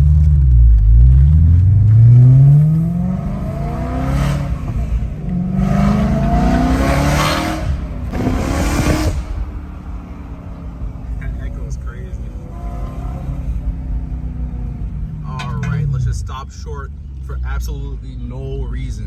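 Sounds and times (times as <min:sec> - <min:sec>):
car engine accelerating hard: 0:00.0 - 0:18.7.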